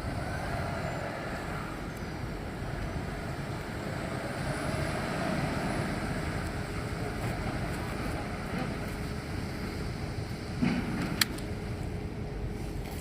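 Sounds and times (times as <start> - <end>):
heavy truck driving past: 0.0 - 12.8.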